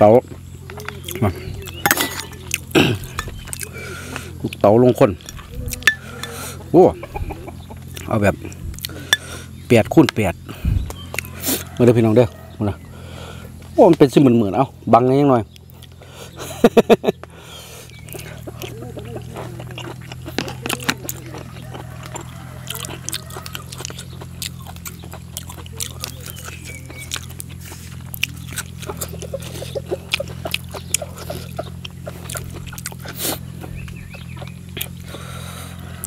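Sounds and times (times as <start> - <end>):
low steady hum: 0.0 - 36.0
chewing and mouth clicks: 0.3 - 6.7, 7.8 - 10.1, 10.8 - 12.3, 15.5 - 16.0, 16.7 - 36.0.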